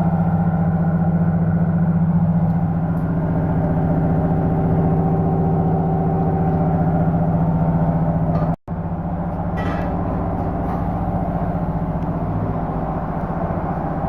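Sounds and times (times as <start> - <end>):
machine motor humming: 2.6 - 14.0.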